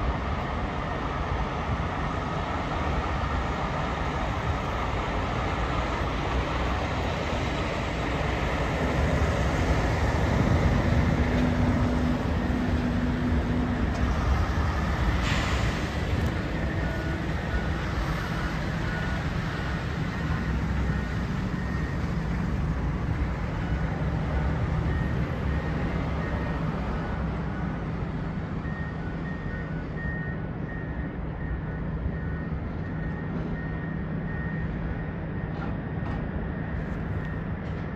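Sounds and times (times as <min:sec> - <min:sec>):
heavy machinery rumble: 0:04.1 - 0:37.9.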